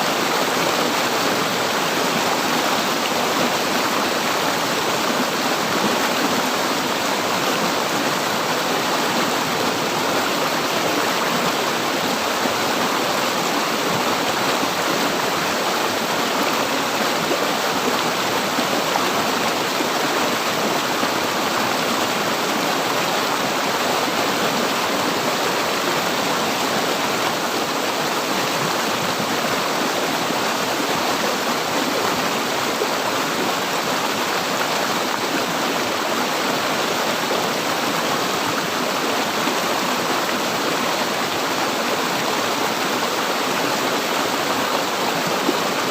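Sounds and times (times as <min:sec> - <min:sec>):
river water flowing over rocks: 0:00.0 - 0:45.9.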